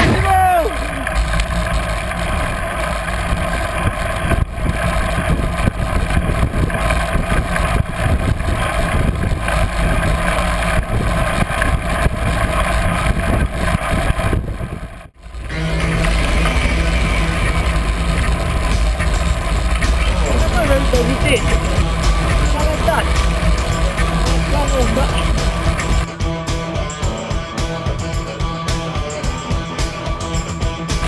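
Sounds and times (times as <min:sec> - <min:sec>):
bike tyre rumble: 0:00.0 - 0:26.1
wind rushing over microphone: 0:00.0 - 0:26.1.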